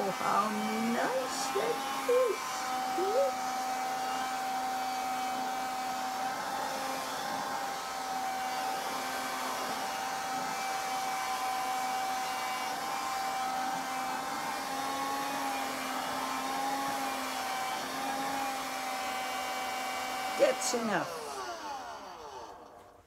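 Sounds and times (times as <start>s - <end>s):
handheld vacuum cleaner whining: 0.0s - 23.0s.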